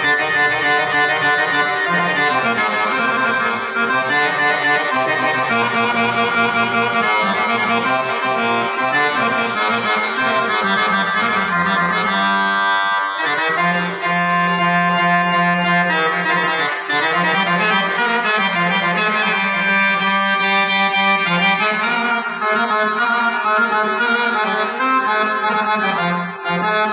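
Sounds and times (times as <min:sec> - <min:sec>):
accordion solo: 0:00.0 - 0:26.9.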